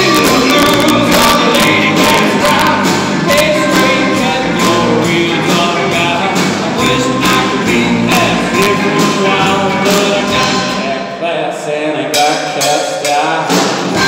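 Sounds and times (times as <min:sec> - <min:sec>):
rockabilly band playing: 0:00.0 - 0:14.0
upright bass: 0:00.0 - 0:14.0.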